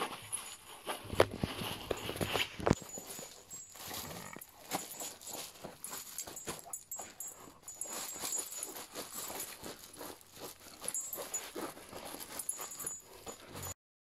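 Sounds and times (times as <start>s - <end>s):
dog chewing plush toy: 1.3s - 13.8s.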